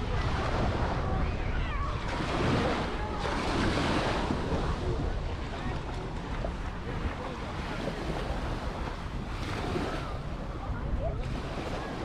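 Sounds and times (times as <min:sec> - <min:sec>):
waves washing onto sand: 0:00.0 - 0:12.0
wind buffeting microphone: 0:00.0 - 0:12.0.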